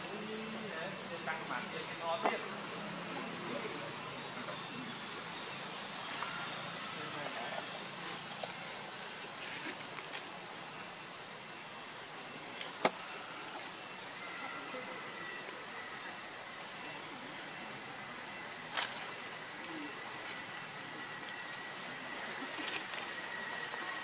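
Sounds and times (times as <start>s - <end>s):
crickets droning: 0.0s - 24.0s.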